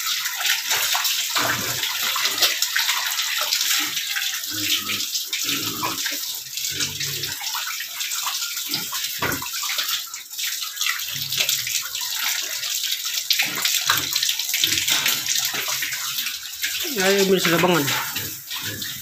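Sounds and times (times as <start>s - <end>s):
water running from hose: 0.0s - 19.0s.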